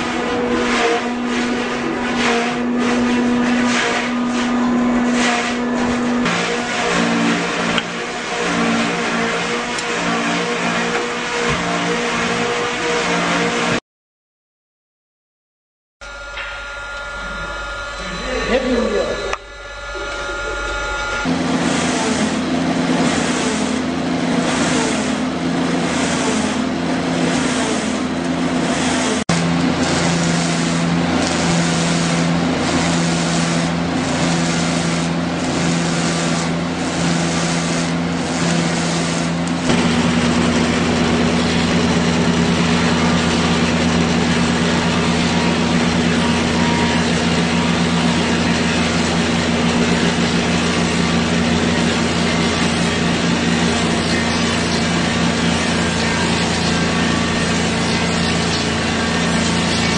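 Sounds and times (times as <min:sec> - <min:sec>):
lathe cutter cutting log: 0:00.0 - 0:13.8, 0:16.0 - 0:59.9
steady motor hum: 0:00.0 - 0:13.8, 0:16.0 - 0:59.9.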